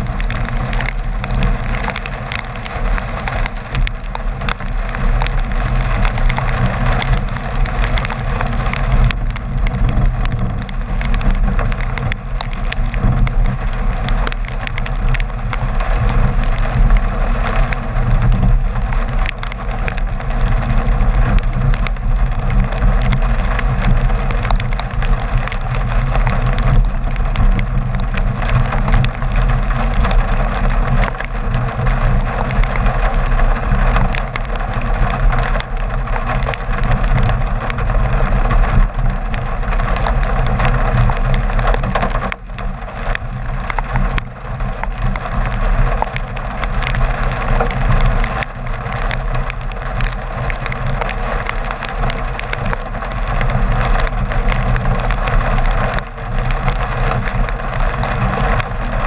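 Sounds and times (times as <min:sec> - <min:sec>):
car engine and tyres on wet road: 0:00.0 - 0:59.0
raindrops ticking on microphone: 0:00.0 - 0:59.0.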